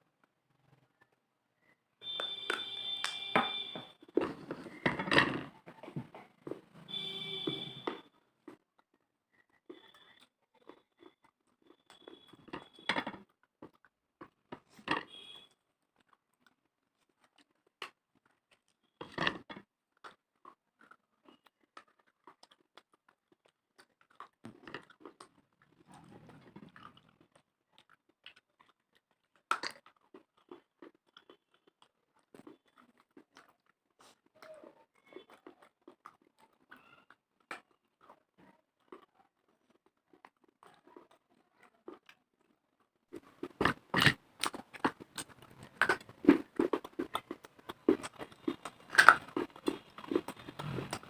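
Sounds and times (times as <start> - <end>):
dry clay crunching when chewed: 0.2 - 51.0.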